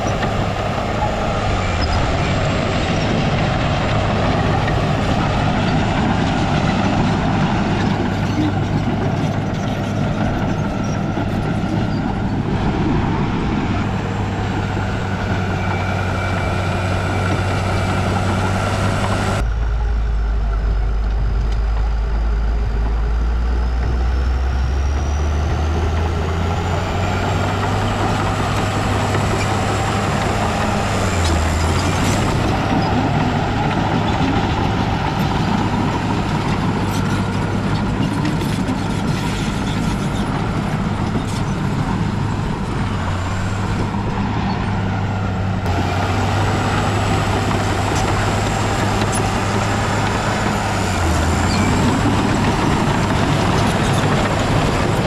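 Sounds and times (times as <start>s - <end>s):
heavy diesel machinery engine: 0.0s - 55.0s.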